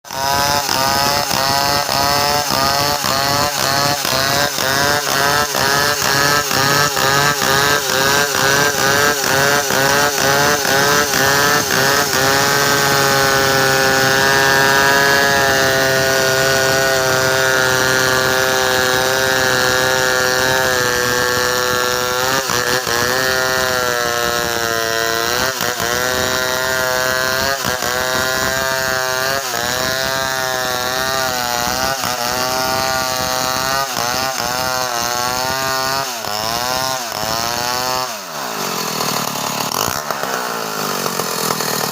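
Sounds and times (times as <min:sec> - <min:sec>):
chainsaw engine at high revs: 0:00.0 - 0:41.9.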